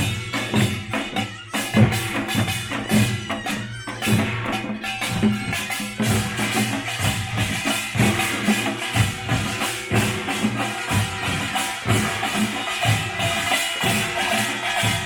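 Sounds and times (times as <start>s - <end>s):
drums beating: 0.0s - 15.0s
small metal gongs clanging: 0.0s - 15.0s.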